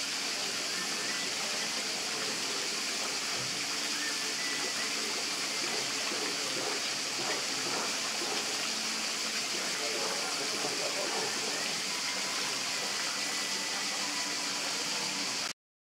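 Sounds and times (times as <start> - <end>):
steady rushing hiss: 0.0 - 15.5.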